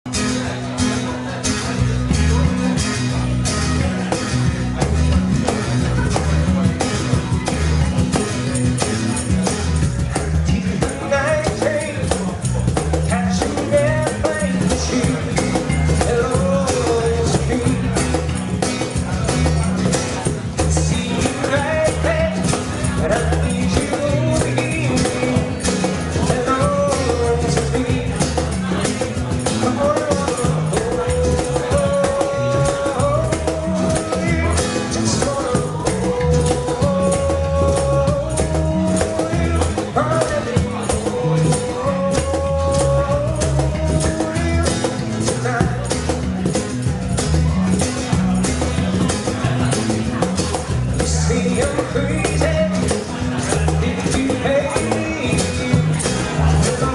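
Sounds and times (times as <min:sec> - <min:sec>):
acoustic guitar: 0:00.0 - 0:56.9
cajon beat: 0:00.0 - 0:56.9
walking bass line: 0:00.0 - 0:56.9.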